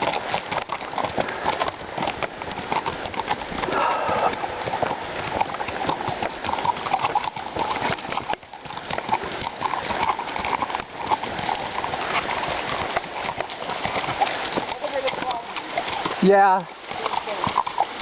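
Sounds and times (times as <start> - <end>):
horse hooves clopping: 0.0 - 18.0.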